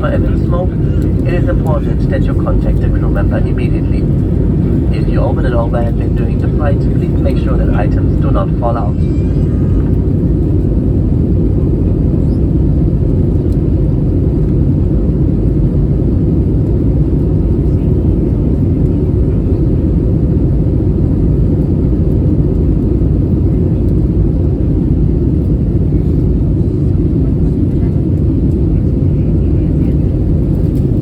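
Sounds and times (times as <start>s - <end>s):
airplane cabin engine rumble: 0.0s - 31.0s.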